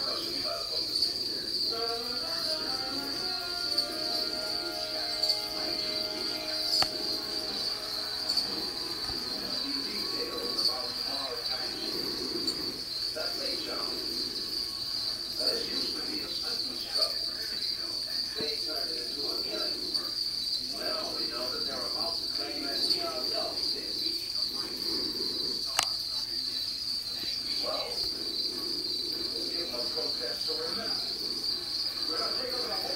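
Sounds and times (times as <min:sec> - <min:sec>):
cricket trilling: 0:00.0 - 0:32.9.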